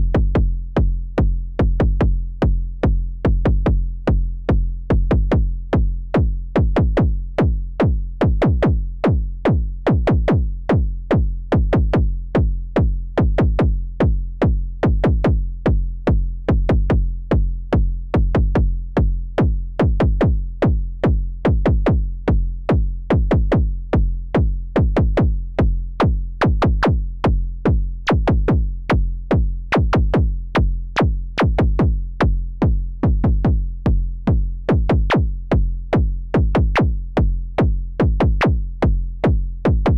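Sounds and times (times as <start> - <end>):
deep pitched bass tone: 0.0 - 39.9
punchy kick drum hits: 4.9 - 18.7, 19.4 - 39.9.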